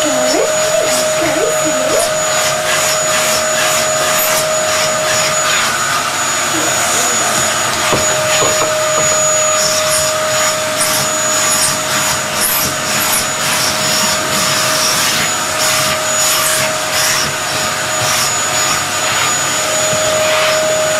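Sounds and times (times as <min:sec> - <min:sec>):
vacuum cleaner whine: 0:00.0 - 0:20.9.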